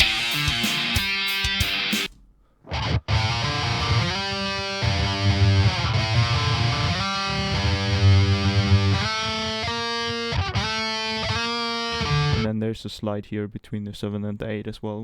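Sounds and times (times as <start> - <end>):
distorted electric guitar riff: 0.0 - 12.4.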